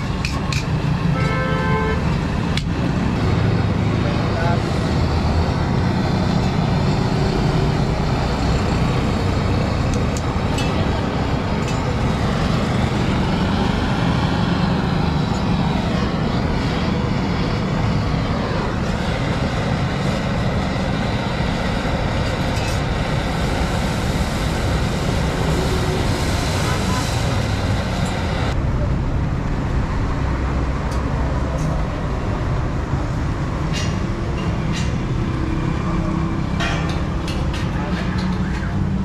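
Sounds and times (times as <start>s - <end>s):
low rumble of motor vehicle: 0.0s - 39.0s.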